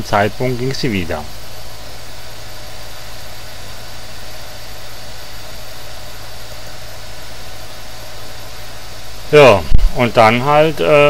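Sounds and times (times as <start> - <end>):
even hiss: 0.0 - 11.0
steady low hum: 0.0 - 11.0.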